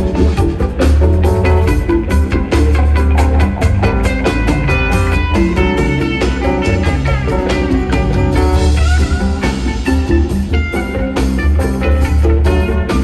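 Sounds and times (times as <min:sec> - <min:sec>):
guitar notes: 0:00.0 - 0:13.0
rock band playing live: 0:00.0 - 0:13.0.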